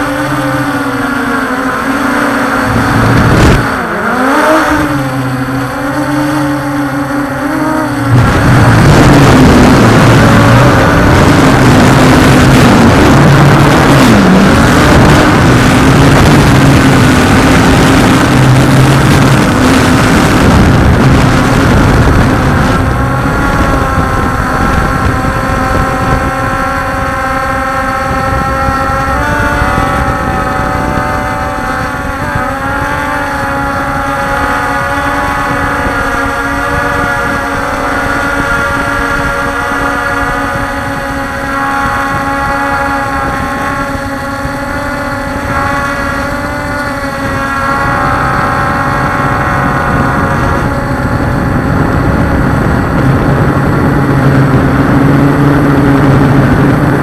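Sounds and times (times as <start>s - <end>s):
drone motors and propellers whining: 0.0s - 57.0s.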